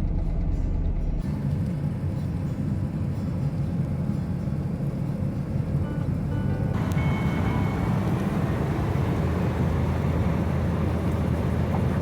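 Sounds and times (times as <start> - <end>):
van engine and road rumble: 0.0 - 12.0.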